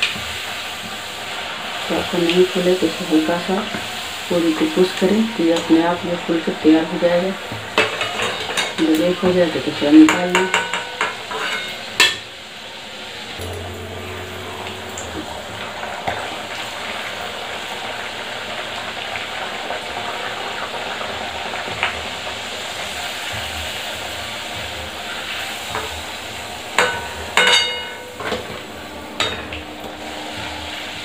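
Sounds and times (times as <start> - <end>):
bread sizzling in hot oil: 0.0 - 15.0, 16.5 - 28.2.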